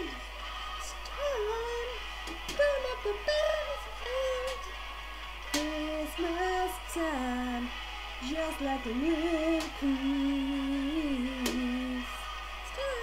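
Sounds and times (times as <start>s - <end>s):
woman singing karaoke: 0.0s - 0.2s, 0.8s - 4.8s, 5.5s - 13.0s.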